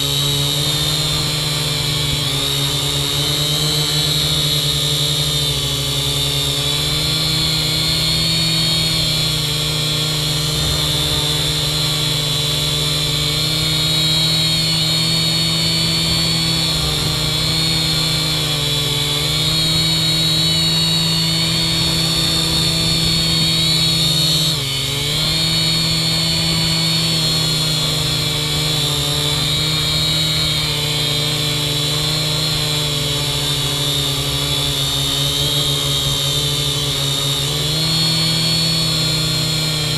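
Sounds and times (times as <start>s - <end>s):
quadcopter motors buzzing and whining: 0.0s - 39.9s.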